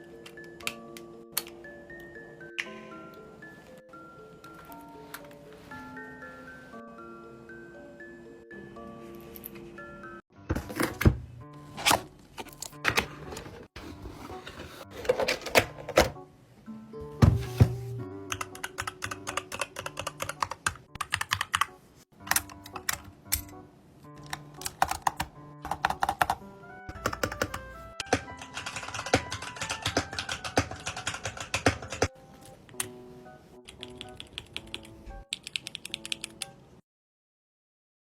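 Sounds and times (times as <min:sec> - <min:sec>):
background music with held notes: 0:00.0 - 0:36.8.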